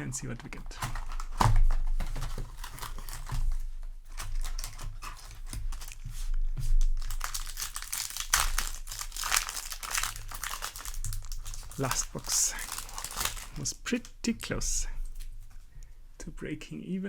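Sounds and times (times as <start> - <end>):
plastic wrapping crinkling and tearing: 0.6 - 15.6.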